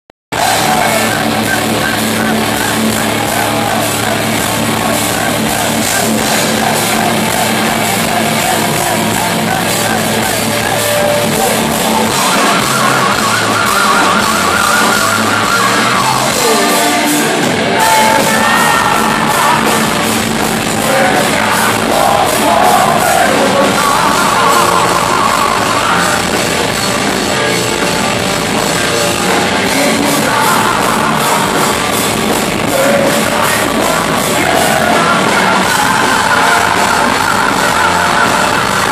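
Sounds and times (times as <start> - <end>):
person singing: 0.3 - 26.7, 29.0 - 38.9
heavy metal band playing live: 0.3 - 38.9.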